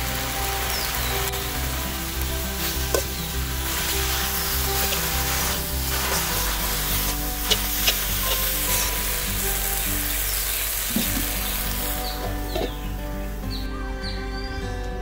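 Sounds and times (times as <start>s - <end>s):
leaves sizzling in wok: 0.0s - 13.8s.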